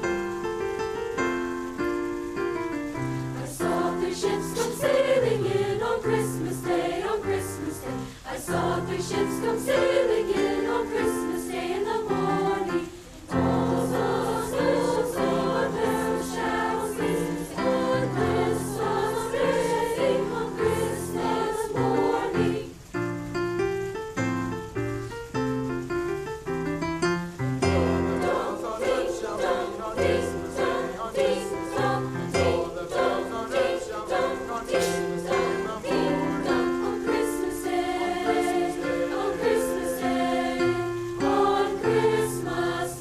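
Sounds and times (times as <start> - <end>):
piano accompaniment: 0.0 - 43.0
choir singing: 3.4 - 22.8, 27.6 - 43.0.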